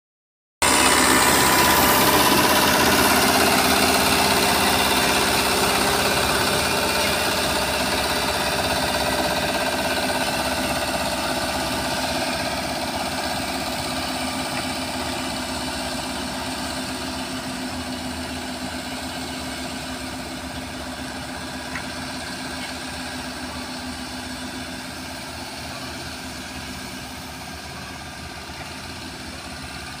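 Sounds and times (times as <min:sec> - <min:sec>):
road roller diesel engine running: 0:00.6 - 0:30.0.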